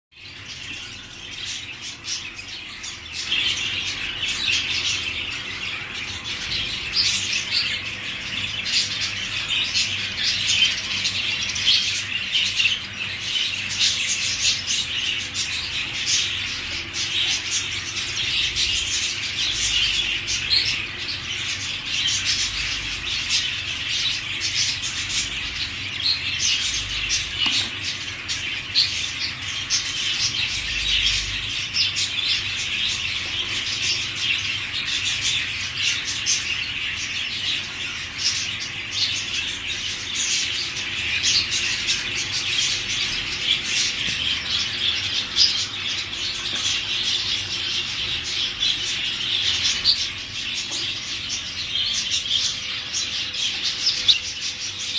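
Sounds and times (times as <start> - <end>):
budgerigars chirping: 0.2 - 54.9.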